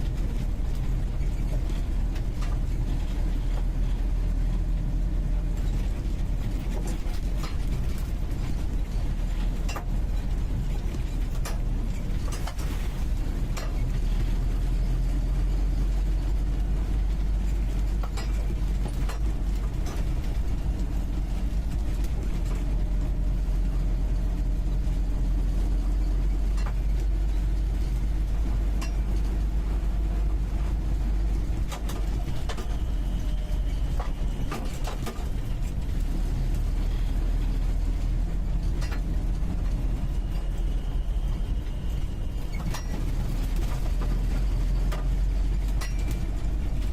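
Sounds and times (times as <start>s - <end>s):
car engine drone from inside cab: 0.0s - 46.9s.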